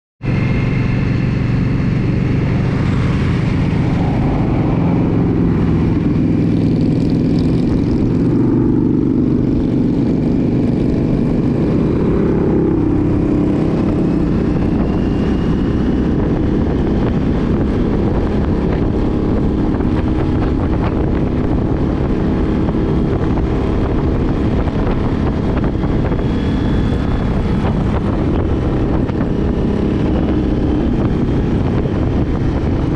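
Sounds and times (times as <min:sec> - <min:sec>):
motorcycle engine running: 0:00.2 - 0:32.9.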